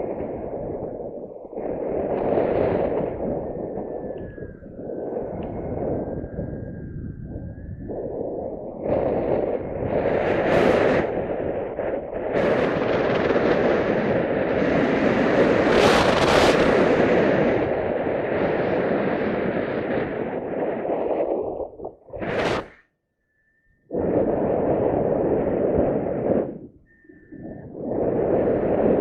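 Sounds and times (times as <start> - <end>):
wind buffeting microphone: 0.0 - 22.8, 23.9 - 29.0.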